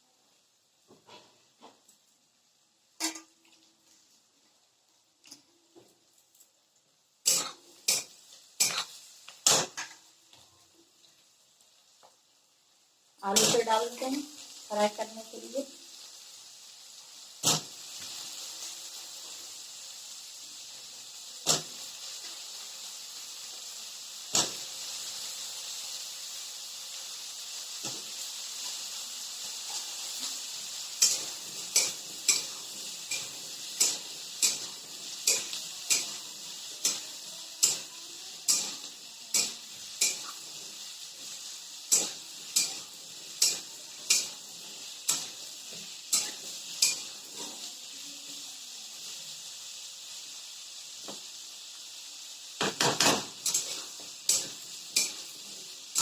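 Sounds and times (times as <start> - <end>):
potatoes sizzling in hot oil: 0.0 - 56.0.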